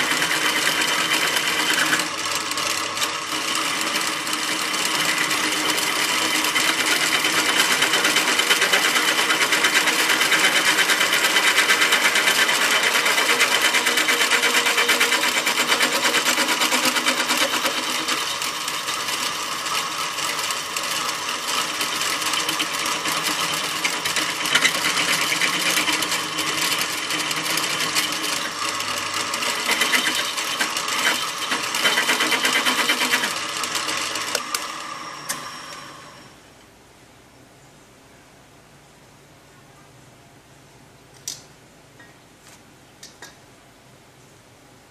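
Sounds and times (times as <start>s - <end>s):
drill press boring into steel: 0.0s - 36.4s.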